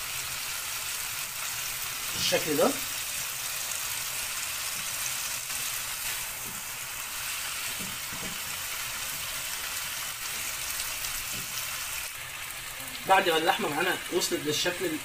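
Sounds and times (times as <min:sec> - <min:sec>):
meat and vegetables sizzling: 0:00.0 - 0:15.0.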